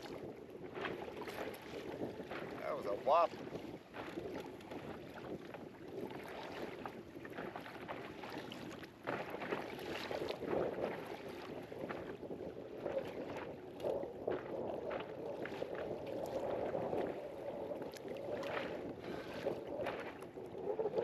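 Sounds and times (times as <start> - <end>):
water lapping against boat: 0.0 - 21.0
wind: 0.0 - 21.0.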